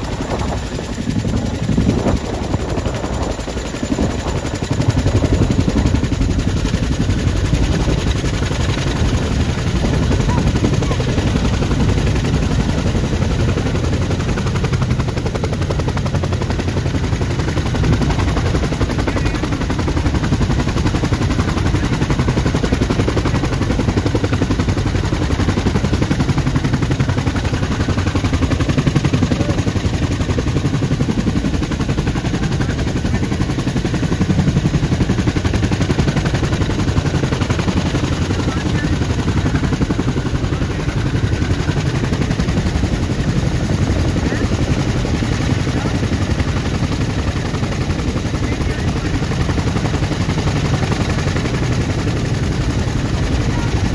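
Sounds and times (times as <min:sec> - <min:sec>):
helicopter rotor blade chop: 0:00.0 - 0:53.9
turbine engine whine: 0:00.0 - 0:53.9.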